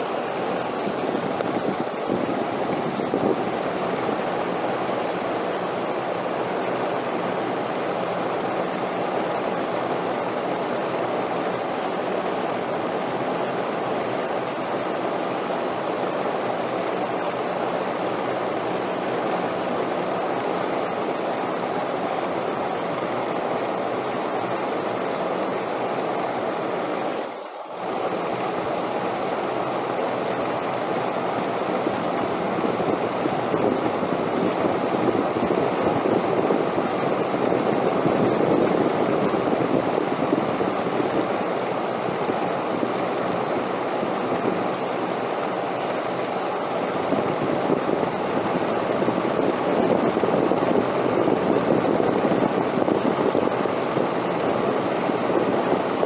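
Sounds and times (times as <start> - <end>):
rushing wind: 0.0 - 56.0.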